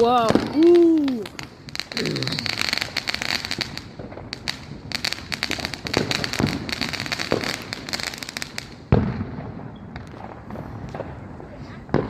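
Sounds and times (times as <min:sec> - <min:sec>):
fireworks crackling: 0:00.0 - 0:12.0
heavy firework bangs: 0:00.0 - 0:12.0.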